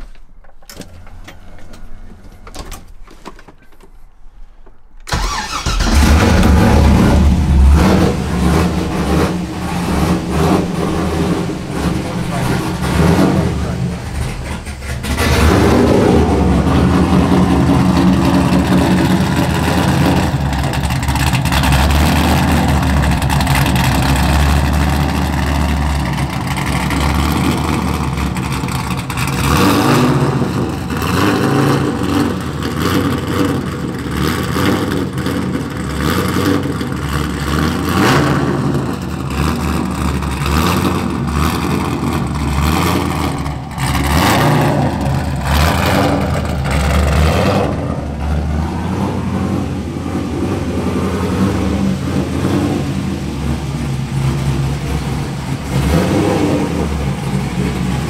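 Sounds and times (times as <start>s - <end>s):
car engine revving: 5.1s - 58.0s.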